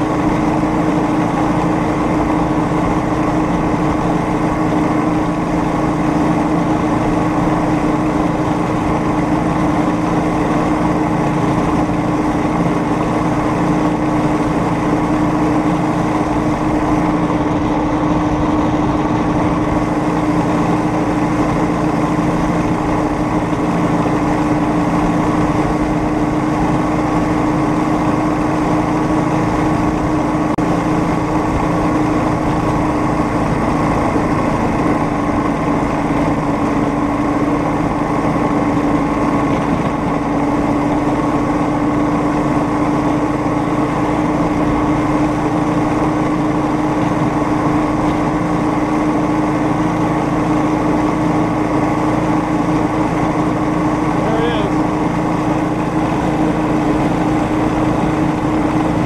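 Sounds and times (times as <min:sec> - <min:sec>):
small engine droning: 0:00.0 - 0:59.0.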